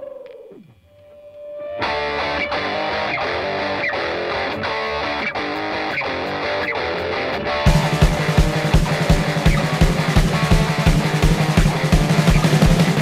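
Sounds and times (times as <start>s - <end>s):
plucked electric guitar music: 1.0s - 13.0s.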